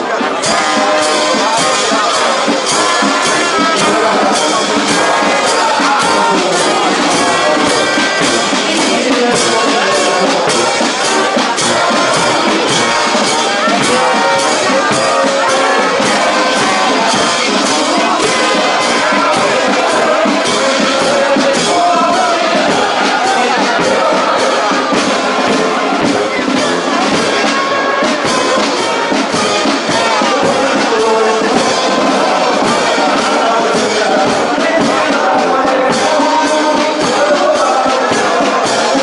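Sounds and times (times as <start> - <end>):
bass drum beat: 0.0 - 39.0
brass band playing a march: 0.0 - 39.0
crowd chatter: 0.0 - 39.0.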